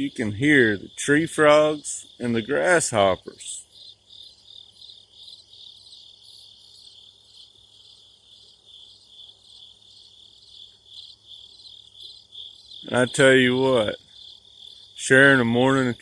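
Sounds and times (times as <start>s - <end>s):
insects pulsing trill: 0.0s - 16.0s.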